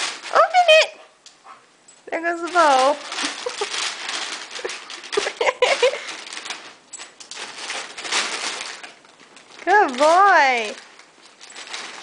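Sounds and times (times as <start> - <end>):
wrapping paper crinkling: 0.0 - 0.8, 2.1 - 12.0.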